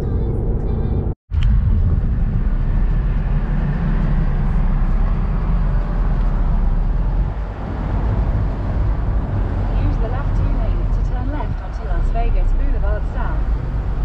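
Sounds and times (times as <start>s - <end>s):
road and wind rumble: 0.0s - 14.0s.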